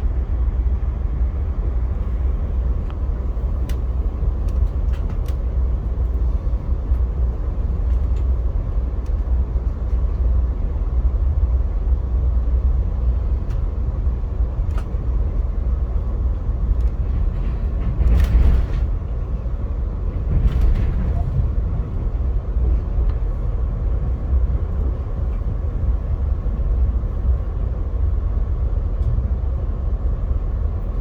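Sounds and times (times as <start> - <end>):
passenger train rumbling: 0.0 - 31.0
train rattle: 0.0 - 31.0.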